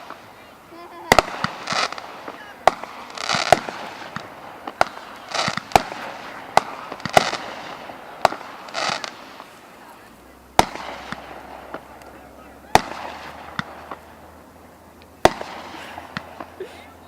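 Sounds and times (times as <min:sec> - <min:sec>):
fireworks bangs: 0:00.0 - 0:17.0
fireworks hissing crackle: 0:00.0 - 0:17.0.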